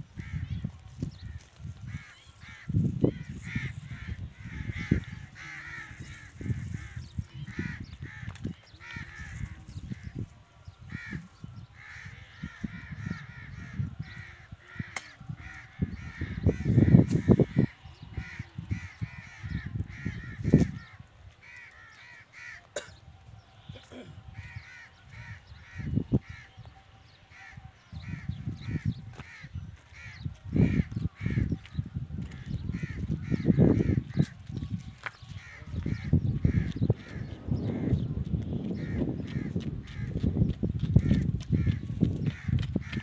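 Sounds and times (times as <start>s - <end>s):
birds calling: 0.2s - 43.0s.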